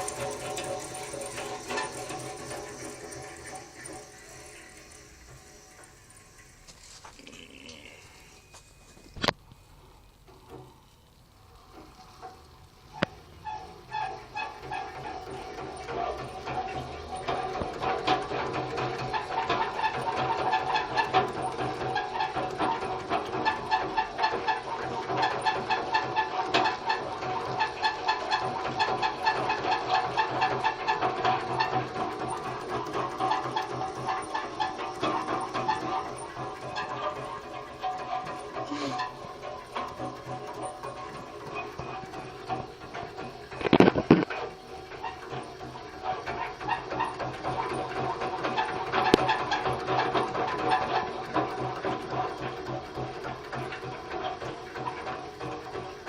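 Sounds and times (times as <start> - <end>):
rhythmic clicking: 0.0 - 56.0
sewing machine whine: 0.0 - 56.0.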